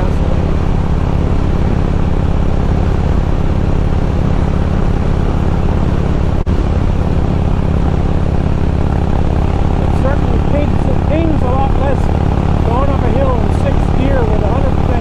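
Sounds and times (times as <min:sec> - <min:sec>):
motorcycle engine running under load: 0:00.0 - 0:15.0.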